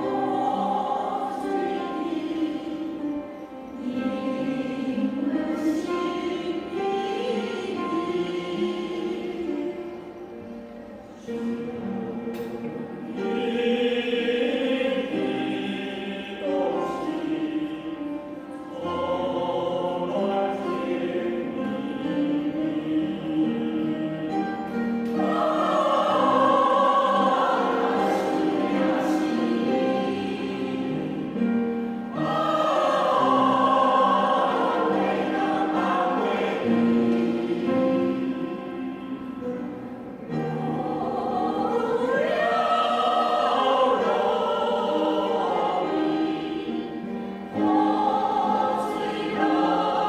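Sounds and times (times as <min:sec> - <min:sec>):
choir singing: 0:00.0 - 0:50.0.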